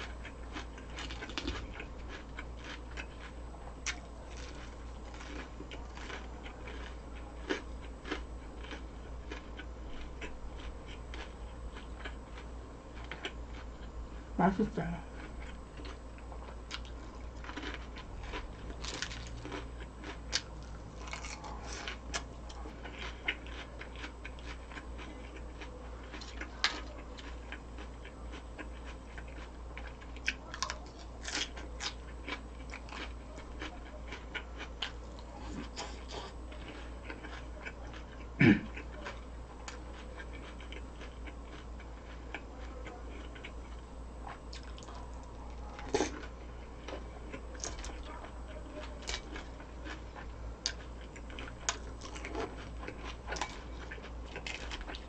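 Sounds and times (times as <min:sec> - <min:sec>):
crisp food crunching: 0:00.0 - 0:55.0.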